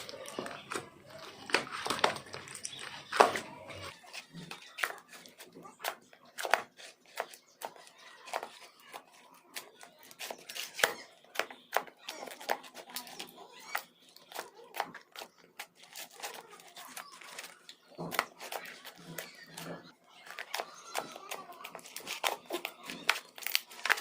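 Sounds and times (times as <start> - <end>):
faint background voices: 0.0 - 24.0.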